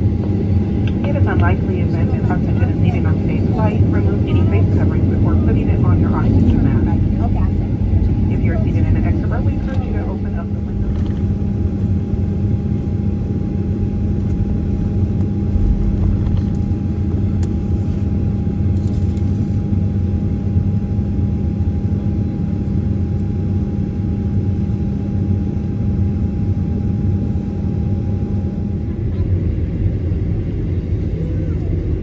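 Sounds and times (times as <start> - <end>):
jet engine cabin rumble: 0.0 - 32.0.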